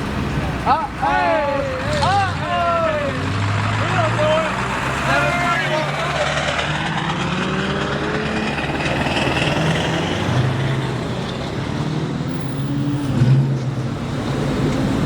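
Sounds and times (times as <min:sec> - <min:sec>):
steady rushing noise: 0:00.0 - 0:12.1
car engine revving: 0:00.0 - 0:15.0.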